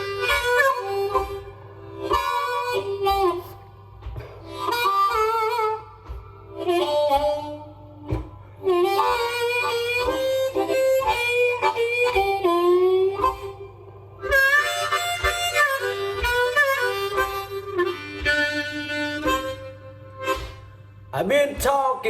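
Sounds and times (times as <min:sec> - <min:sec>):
blues harmonica solo: 0:00.0 - 0:21.9
low beat thumps: 0:00.0 - 0:22.0.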